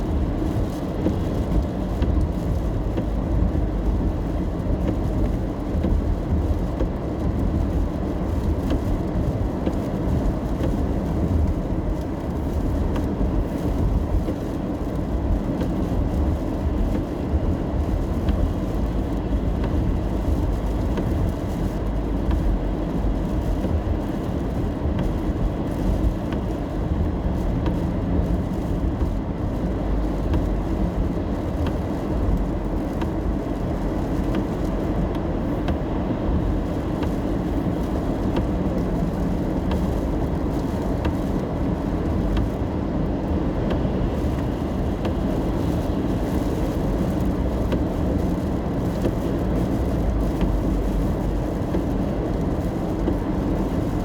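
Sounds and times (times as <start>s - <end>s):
car road rumble on wet roads: 0.0s - 54.0s.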